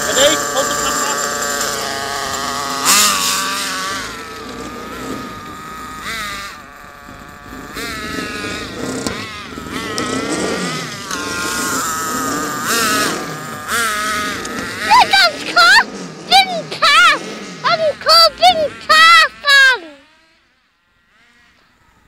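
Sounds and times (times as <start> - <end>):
small nitro engine revving: 0.0 - 22.0.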